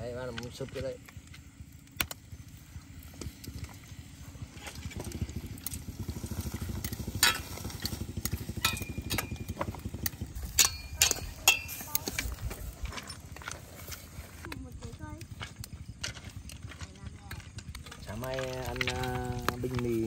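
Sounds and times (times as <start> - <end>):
low fluttering rumble: 0.0 - 20.0.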